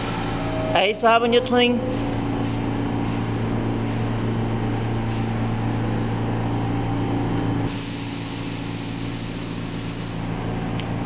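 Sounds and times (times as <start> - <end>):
subway train equipment humming: 0.0 - 11.0.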